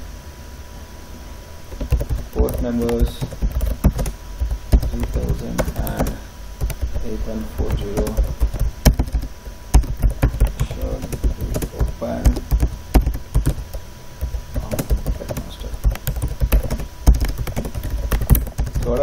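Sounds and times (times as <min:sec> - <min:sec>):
typing on a computer keyboard: 0:01.7 - 0:19.0.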